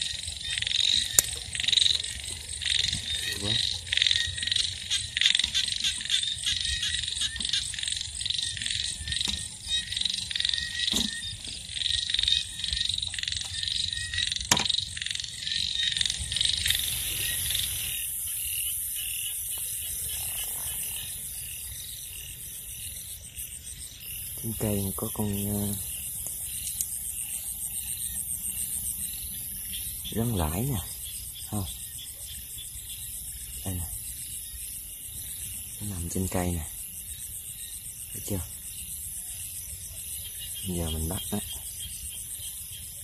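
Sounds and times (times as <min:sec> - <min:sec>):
frogs calling in chorus: 0:00.0 - 0:43.0
high insect buzz: 0:00.0 - 0:43.0
insects trilling: 0:00.0 - 0:43.0.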